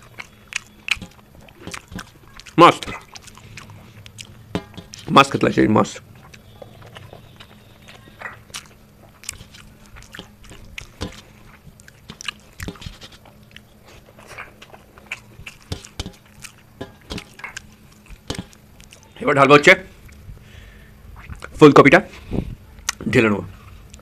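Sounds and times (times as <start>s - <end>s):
man chewing and lip smacking: 0.0s - 5.2s, 6.1s - 19.2s, 20.0s - 20.3s, 21.2s - 21.6s, 22.6s - 24.0s.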